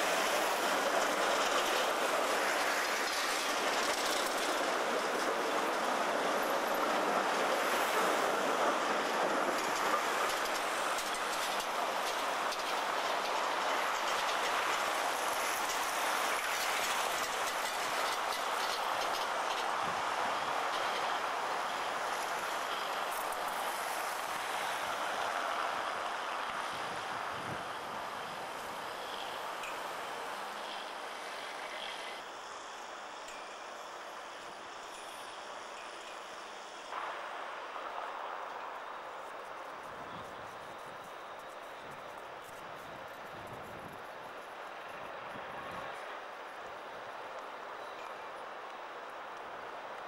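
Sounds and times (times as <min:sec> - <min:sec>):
rushing street noise: 0:00.0 - 0:50.0
tram wheels on rails: 0:00.0 - 0:50.0.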